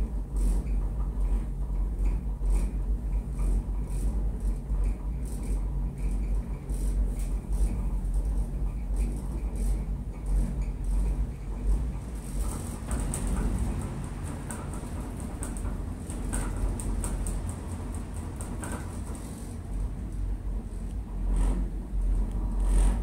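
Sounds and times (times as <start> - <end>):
gondola cabin rumble: 0.0 - 23.0.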